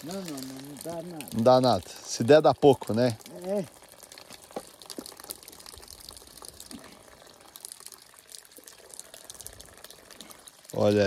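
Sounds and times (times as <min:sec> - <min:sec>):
faint water spattering from hose: 0:00.0 - 0:11.0.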